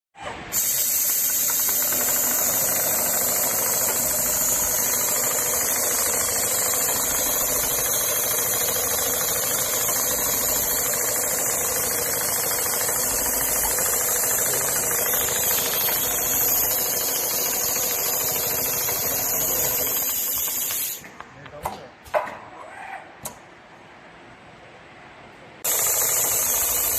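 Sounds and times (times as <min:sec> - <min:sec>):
sewing machine stitching: 0:00.2 - 0:21.0, 0:25.6 - 0:26.9.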